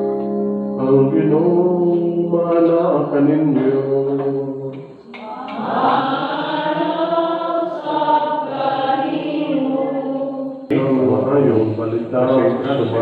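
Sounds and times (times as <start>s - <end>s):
voices singing church chant: 0.0s - 13.0s.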